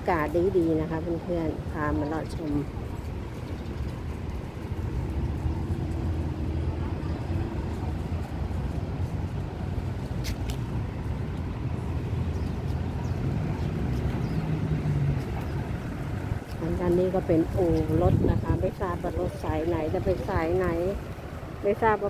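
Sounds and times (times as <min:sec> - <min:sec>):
bus engines: 0:00.0 - 0:22.0
faint engine hum: 0:00.0 - 0:22.0
road traffic rumble: 0:00.0 - 0:22.0.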